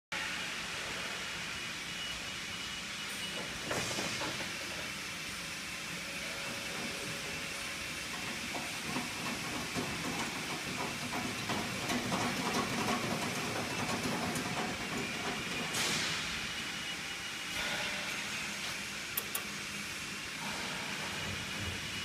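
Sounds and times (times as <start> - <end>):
machine motor hiss and hum: 0.2 - 22.0.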